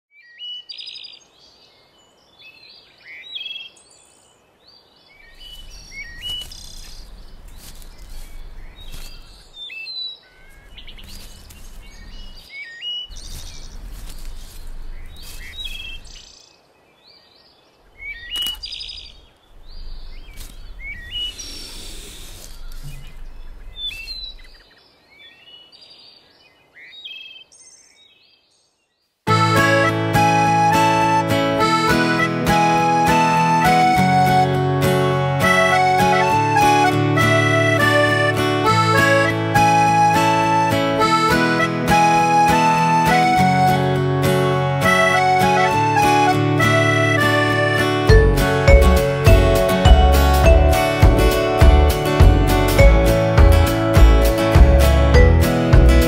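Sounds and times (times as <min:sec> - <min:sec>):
birds chirping: 0:00.1 - 0:56.0.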